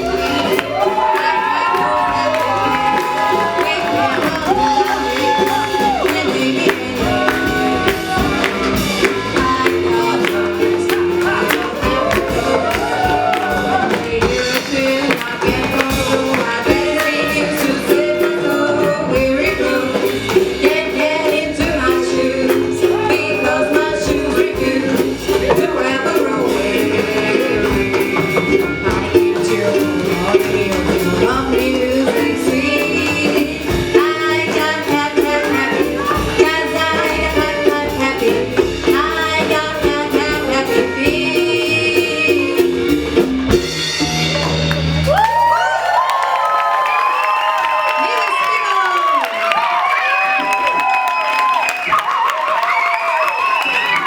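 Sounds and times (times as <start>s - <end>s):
live band music: 0.0s - 54.0s.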